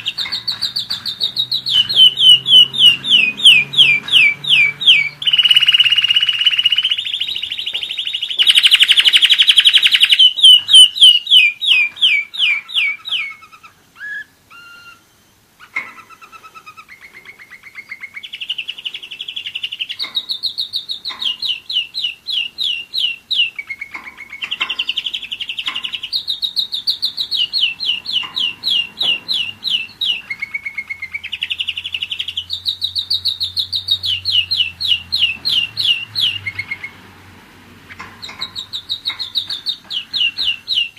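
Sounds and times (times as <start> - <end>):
canary singing trills: 0.0 - 37.1, 37.8 - 40.9.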